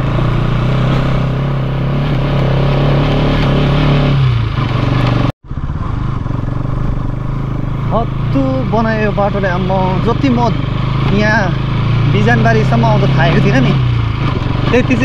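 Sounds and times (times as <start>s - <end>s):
motorcycle engine climbing hill: 0.0s - 15.0s.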